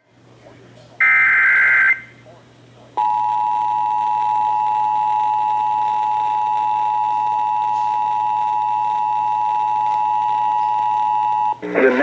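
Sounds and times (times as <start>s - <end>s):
emergency alert two-tone signal: 1.0s - 2.1s, 3.0s - 11.6s.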